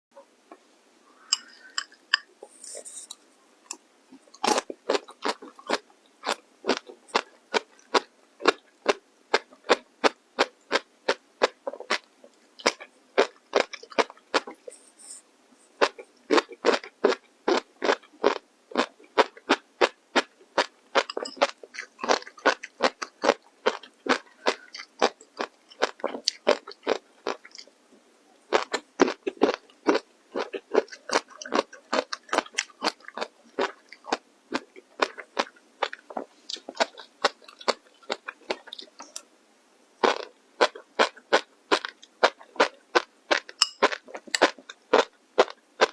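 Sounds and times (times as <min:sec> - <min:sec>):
chewing crunchy food: 0:01.4 - 0:15.2, 0:15.8 - 0:27.8, 0:28.4 - 0:39.3, 0:40.0 - 0:45.9.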